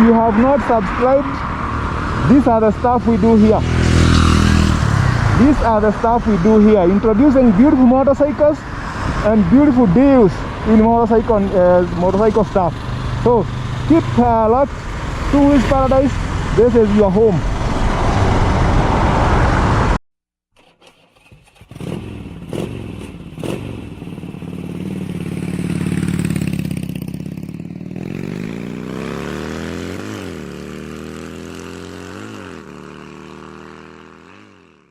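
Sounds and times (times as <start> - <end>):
motorcycle engine running: 1.2 - 17.8, 21.2 - 34.9.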